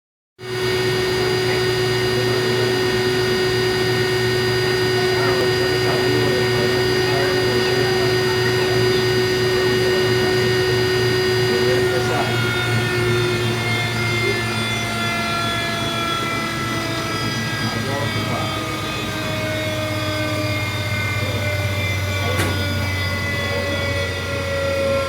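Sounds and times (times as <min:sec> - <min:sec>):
washing machine drum whine: 0:00.4 - 0:25.0.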